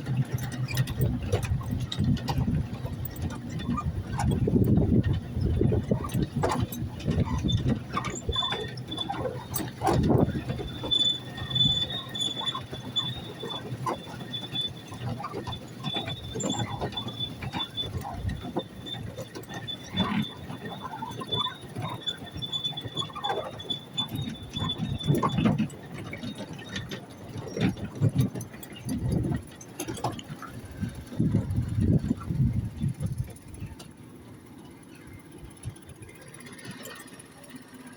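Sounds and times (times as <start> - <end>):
high-pitched wheel squeal: 0.0 - 34.0
train wheels rattling on track: 0.0 - 37.9.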